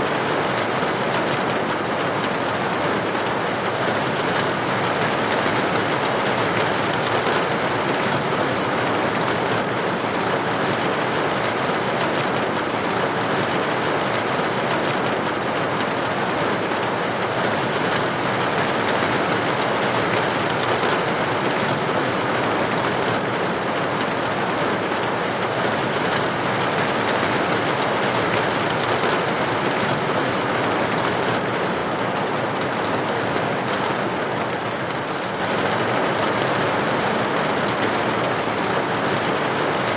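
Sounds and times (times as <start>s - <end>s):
rain on window glass: 0.1s - 39.9s.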